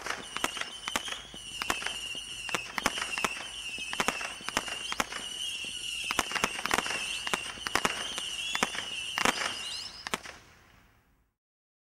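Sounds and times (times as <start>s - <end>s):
firework high whistles: 0.0s - 10.5s
firework sharp bangs: 0.0s - 10.8s.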